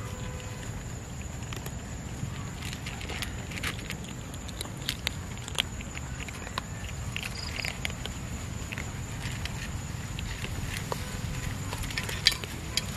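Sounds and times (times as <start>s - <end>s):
cats crunching dry kibble: 0.0s - 12.9s.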